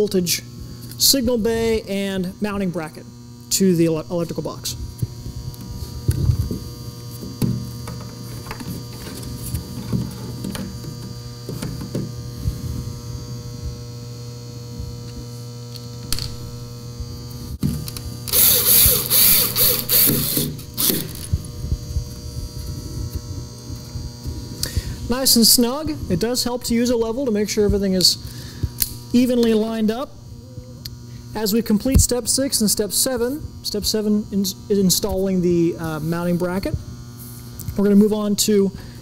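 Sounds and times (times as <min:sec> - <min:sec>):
mains hum: 0:00.0 - 0:39.0.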